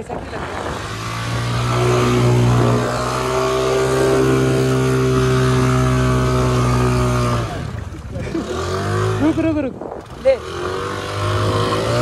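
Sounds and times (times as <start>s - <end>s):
motorcycle engine revving high: 0.0s - 12.0s.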